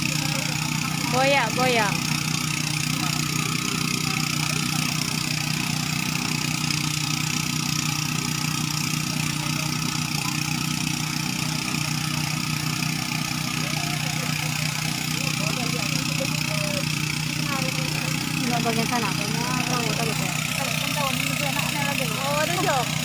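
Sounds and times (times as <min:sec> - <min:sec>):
small engine humming: 0:00.0 - 0:23.0.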